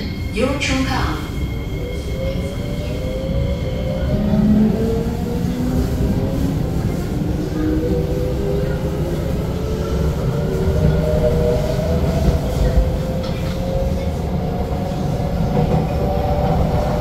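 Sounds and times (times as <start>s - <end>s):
train wheel and track rumble: 0.0s - 17.0s.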